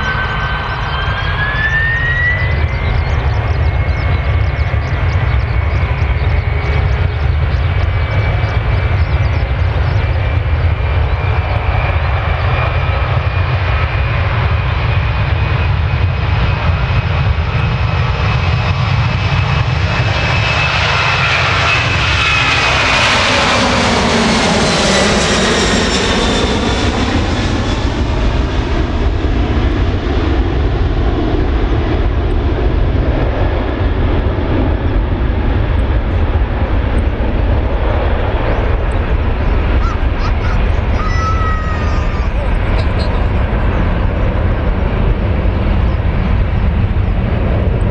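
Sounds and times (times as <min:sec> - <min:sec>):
jet engines whine and rumble: 0:00.0 - 0:47.9.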